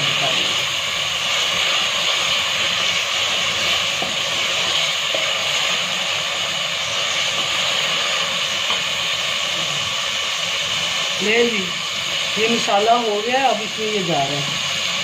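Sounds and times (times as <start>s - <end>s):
masala sizzling in oil: 0.0s - 15.0s.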